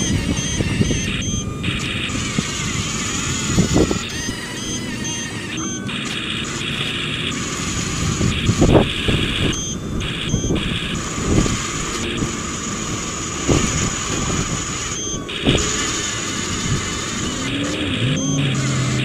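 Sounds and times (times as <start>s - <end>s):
gear and track rattle: 0.0s - 19.0s
small electric motors whining: 0.0s - 19.0s.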